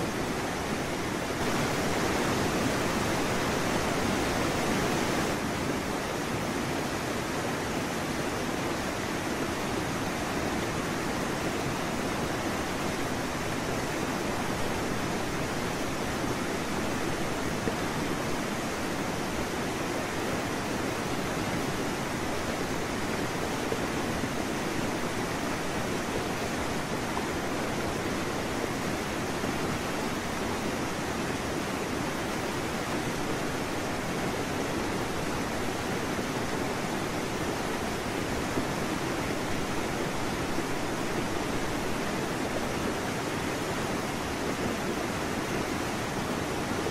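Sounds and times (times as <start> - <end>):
sea: 0.0 - 46.9
wind: 0.0 - 46.9.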